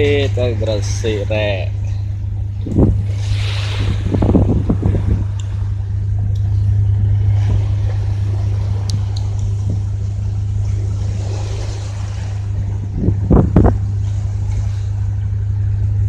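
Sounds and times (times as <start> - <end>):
hiss of wind and water: 0.0 - 15.8
boat diesel engine drone: 0.0 - 16.0.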